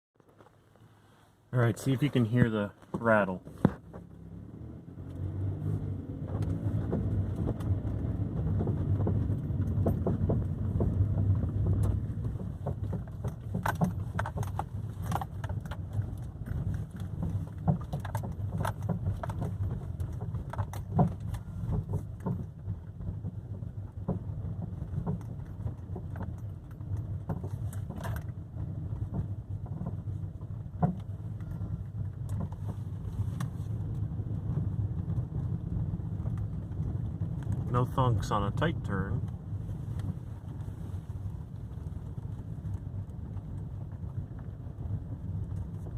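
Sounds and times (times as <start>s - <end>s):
car engine and road rumble: 0.2s - 45.9s
knocks and rattles over bumps: 1.8s - 45.9s.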